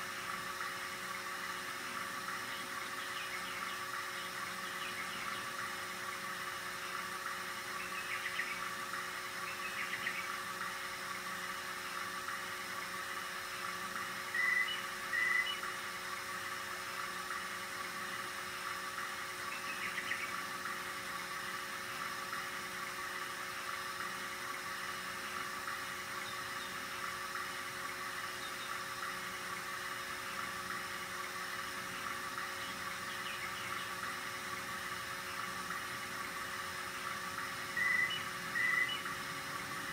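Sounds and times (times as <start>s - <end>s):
cassette deck motor whirring: 0.0s - 39.9s.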